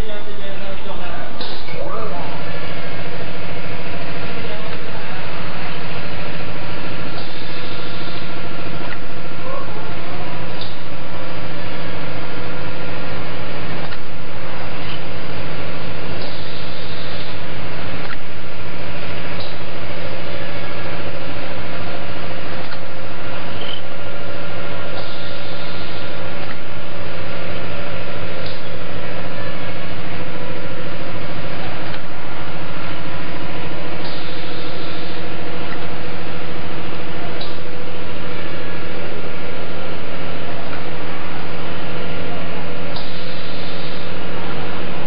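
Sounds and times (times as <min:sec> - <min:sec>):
printing machine humming: 0:00.0 - 0:45.0.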